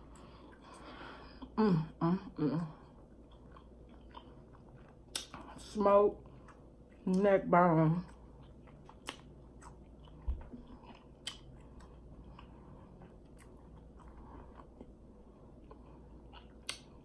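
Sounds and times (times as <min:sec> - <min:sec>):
faint chewing: 0:00.0 - 0:01.6, 0:02.6 - 0:07.3, 0:08.0 - 0:17.0.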